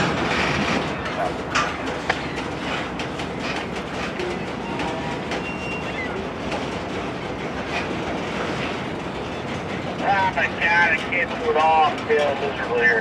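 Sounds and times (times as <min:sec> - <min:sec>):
locomotive diesel engines: 0:00.0 - 0:13.0
train wheels on rails: 0:00.0 - 0:13.0.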